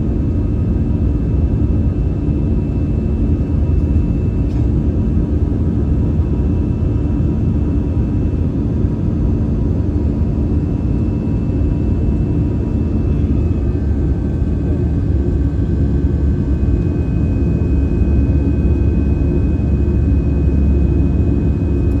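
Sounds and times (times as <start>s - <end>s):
airliner engines droning in cabin: 0.0s - 22.0s.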